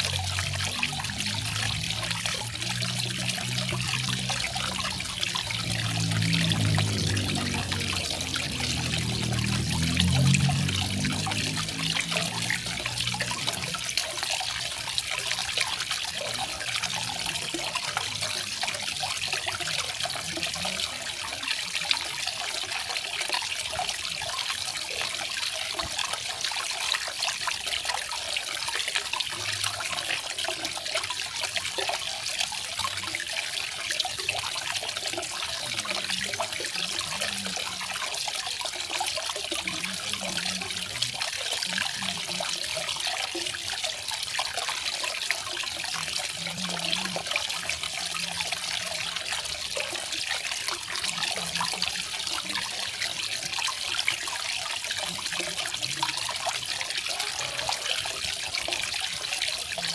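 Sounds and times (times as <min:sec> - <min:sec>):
low water gurgling: 0:00.0 - 0:59.9
small waterfall splashing: 0:00.0 - 0:59.9.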